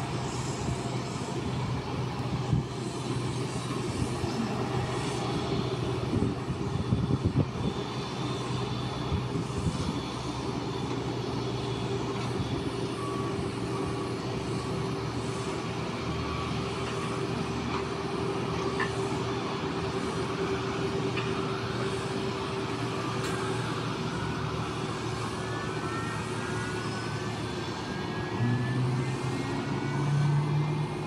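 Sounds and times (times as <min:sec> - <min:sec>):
aircraft and vehicle engines droning: 0:00.0 - 0:31.0
vehicle reversing beep: 0:00.0 - 0:31.0.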